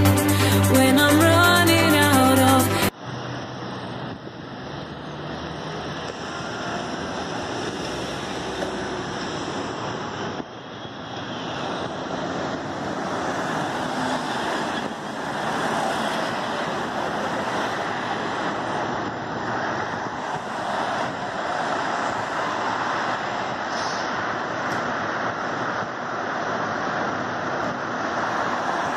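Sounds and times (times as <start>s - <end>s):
road traffic passing close: 0.0s - 28.9s.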